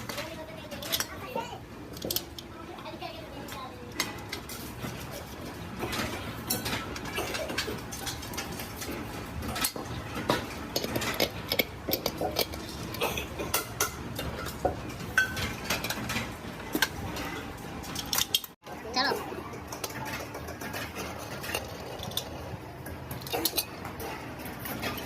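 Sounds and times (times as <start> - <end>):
metal parts clinking: 0.0 - 1.2, 1.9 - 2.5, 3.8 - 18.6, 19.5 - 25.0
low factory background: 0.0 - 25.0.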